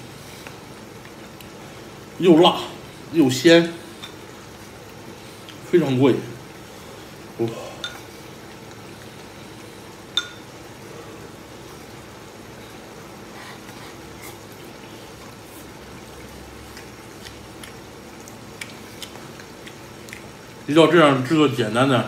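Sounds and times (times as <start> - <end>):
wok simmering: 0.0 - 22.0.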